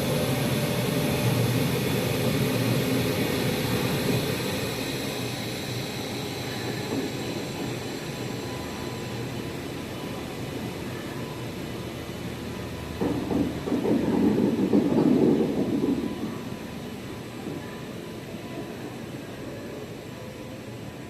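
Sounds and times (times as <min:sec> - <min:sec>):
train running on rails: 0:00.0 - 0:21.0.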